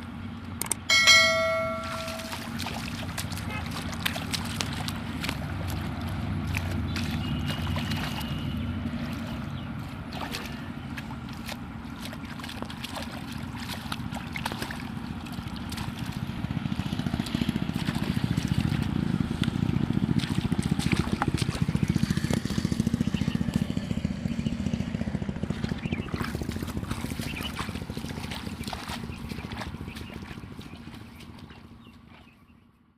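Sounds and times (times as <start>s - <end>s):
water sloshing and gurgling: 0.7s - 32.5s
small water splashes: 1.2s - 32.5s.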